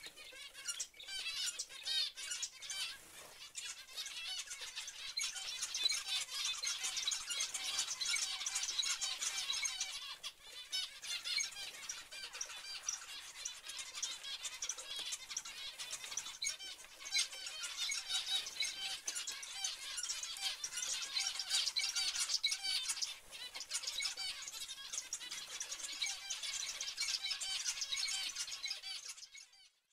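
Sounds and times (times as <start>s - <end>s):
finches chattering: 0.0s - 29.8s.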